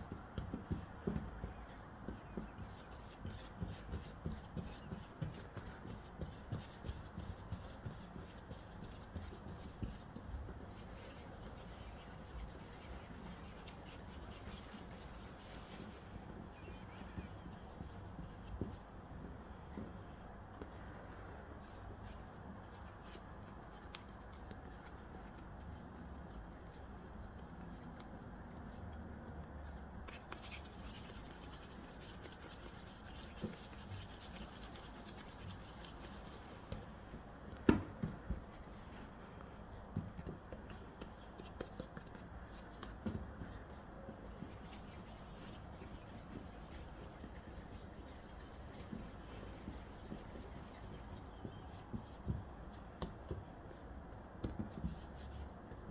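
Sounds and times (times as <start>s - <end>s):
hands kneading dough: 0.0s - 55.9s.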